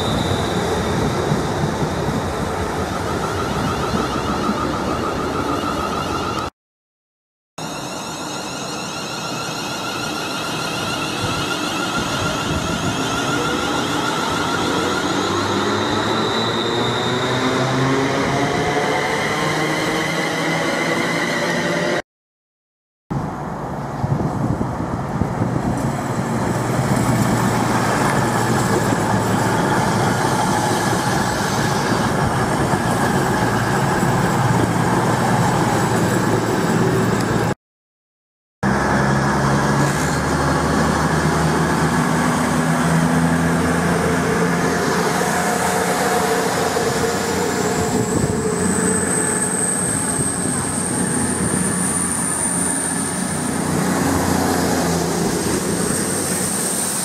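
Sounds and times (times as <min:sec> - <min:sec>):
diesel train passing: 0:00.0 - 0:06.5, 0:07.6 - 0:22.0, 0:23.2 - 0:37.6, 0:38.6 - 0:57.0.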